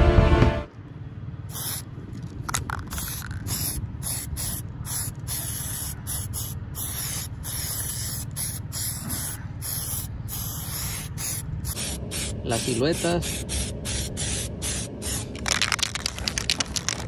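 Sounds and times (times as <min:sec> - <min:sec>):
spray paint can hissing: 0:01.5 - 0:01.8, 0:02.4 - 0:17.0.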